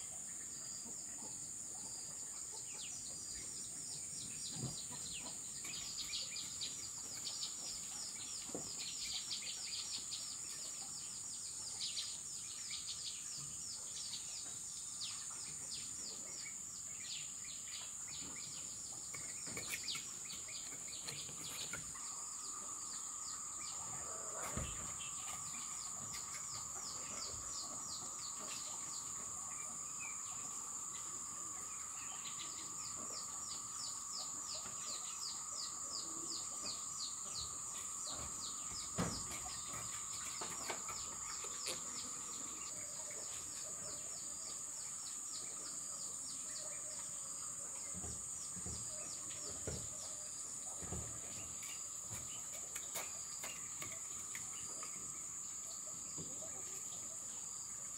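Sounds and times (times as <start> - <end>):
high insect drone: 0.0 - 57.9
low steady buzz: 0.0 - 57.9.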